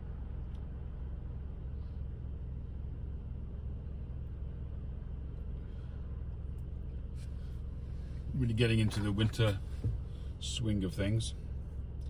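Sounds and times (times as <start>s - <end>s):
car driving slowly: 0.0s - 12.0s
road traffic rumble: 0.0s - 12.0s.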